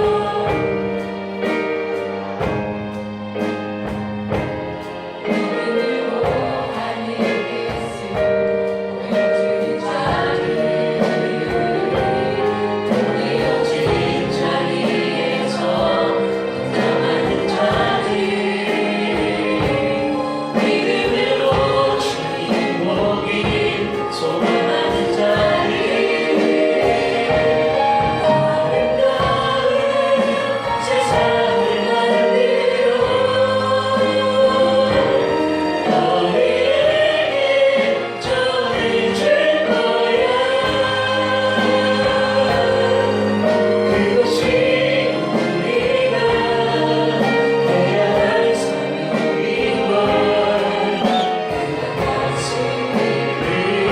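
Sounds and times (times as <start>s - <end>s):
church choir singing: 0.0s - 53.9s
instrumental accompaniment with beat: 0.0s - 53.9s.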